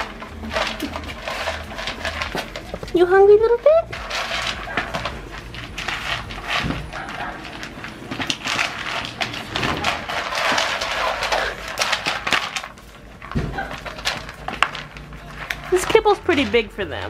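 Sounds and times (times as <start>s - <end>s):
puppies crunching kibble: 0.0s - 17.0s.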